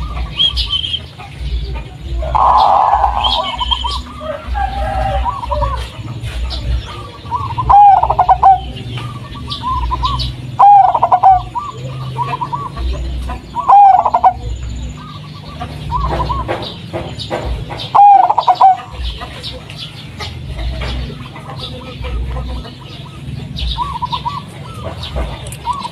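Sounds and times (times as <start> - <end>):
dove cooing: 0.0 - 25.9.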